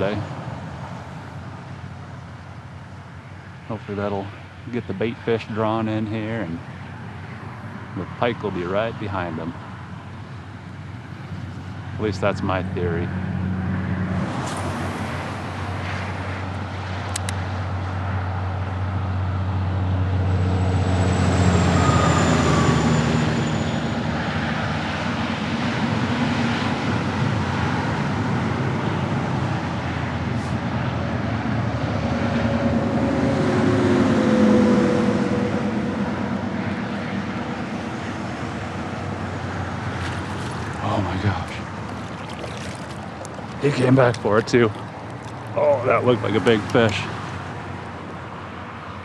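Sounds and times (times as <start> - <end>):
highway traffic roar: 0.0 - 49.0.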